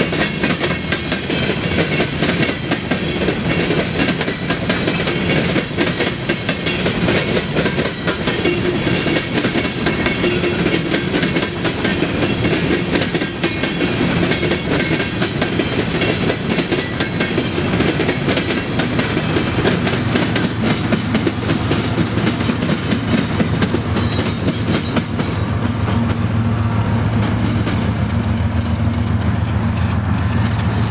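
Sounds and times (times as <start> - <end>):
diesel locomotive engine drone: 0.0 - 30.9
train wheels clicking over rail joints: 0.0 - 30.9.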